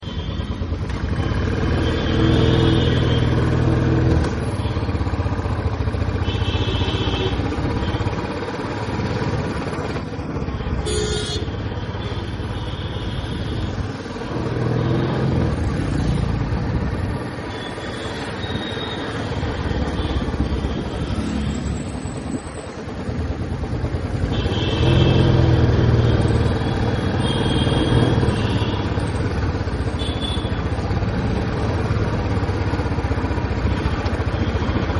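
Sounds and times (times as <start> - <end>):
motorcycle engine accelerating: 0.7 - 11.3, 13.8 - 17.4, 18.4 - 34.9.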